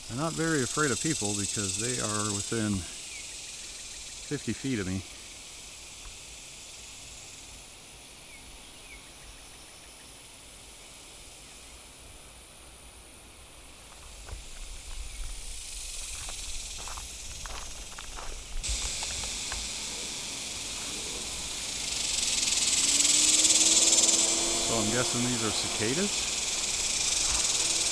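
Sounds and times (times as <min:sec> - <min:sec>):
cicadas buzzing: 0:00.0 - 0:27.9.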